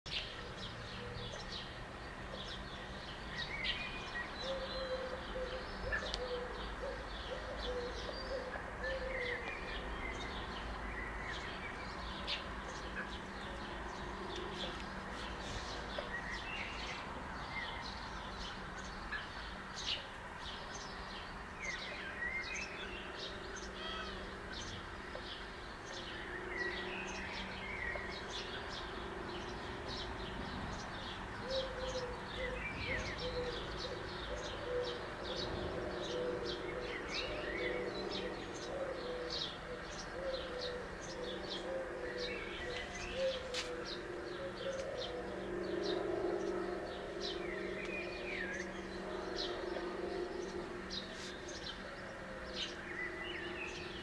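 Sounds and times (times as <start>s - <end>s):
birds chirping: 0.1s - 54.0s
birds cooing: 0.1s - 54.0s
steady low background hum: 0.1s - 54.0s.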